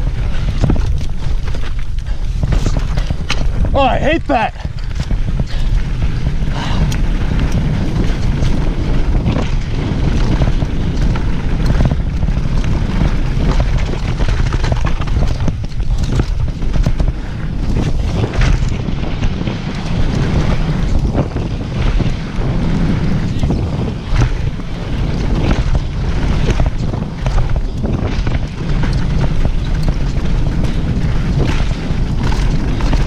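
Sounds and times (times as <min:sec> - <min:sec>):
bike rattling over rough trail: 0:00.0 - 0:33.0
wind rushing over microphone: 0:00.0 - 0:33.0.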